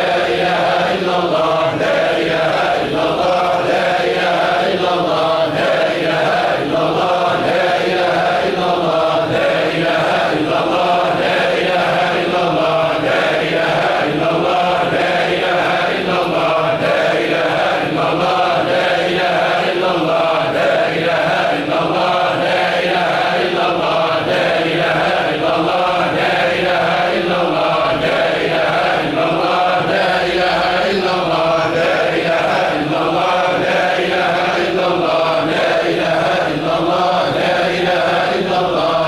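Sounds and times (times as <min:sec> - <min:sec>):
men chanting in unison: 0:00.0 - 0:39.0.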